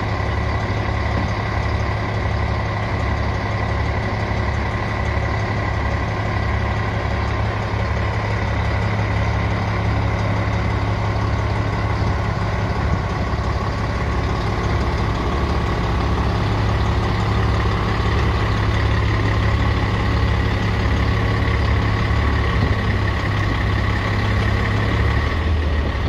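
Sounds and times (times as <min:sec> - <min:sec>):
truck diesel engine humming: 0:00.0 - 0:26.0.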